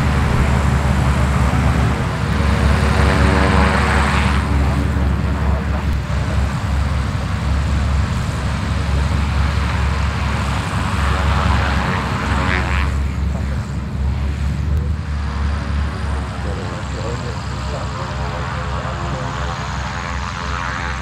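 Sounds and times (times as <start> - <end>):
propeller aircraft engines droning: 0.0 - 21.0.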